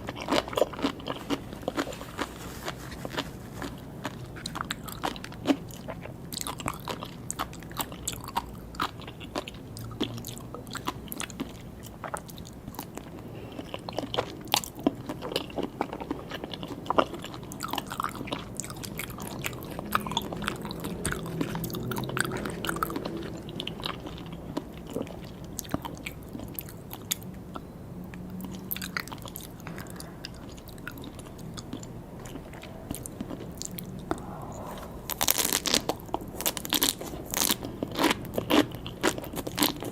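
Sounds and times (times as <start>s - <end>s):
biting and chewing food: 0.0s - 34.4s, 35.1s - 39.9s.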